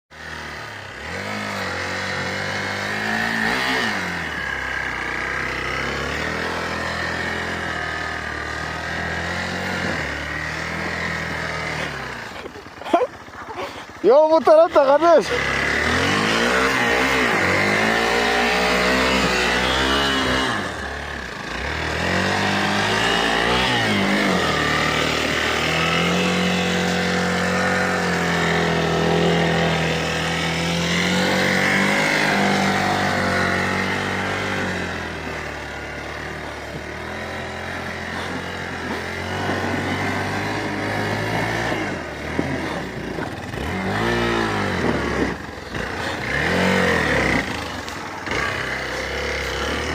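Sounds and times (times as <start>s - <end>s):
motorcycle engine revving: 0.1s - 49.9s.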